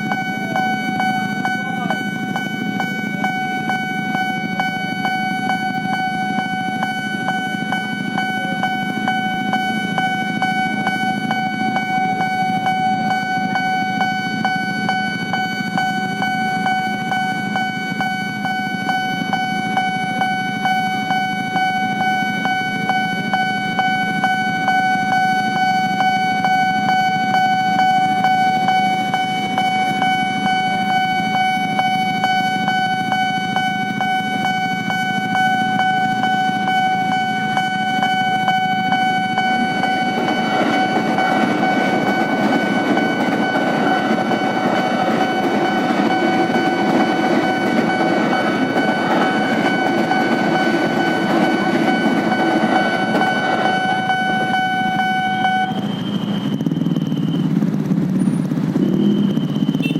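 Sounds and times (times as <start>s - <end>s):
level-crossing warning bell: 0.0s - 59.9s
rumble of motor vehicles: 0.0s - 59.9s.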